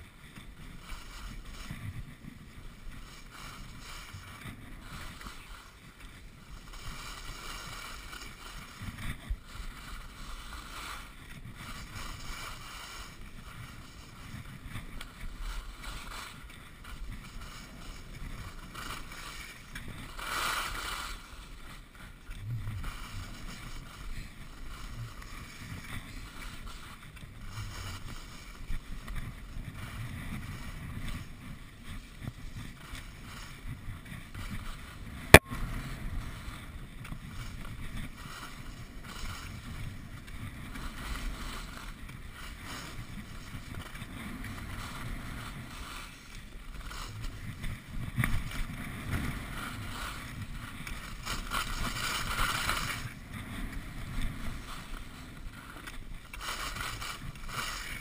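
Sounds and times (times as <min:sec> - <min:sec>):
skis scraping over packed snow: 0:00.0 - 0:58.0.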